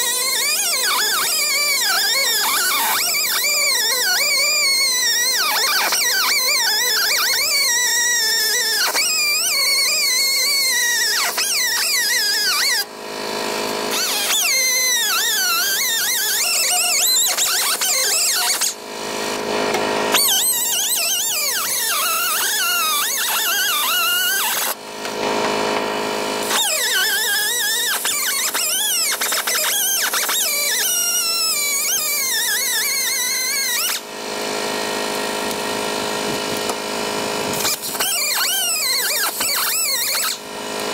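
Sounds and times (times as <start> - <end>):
abrasive disc cutting sheet metal: 0.0 - 12.9, 13.5 - 36.8, 37.4 - 40.9.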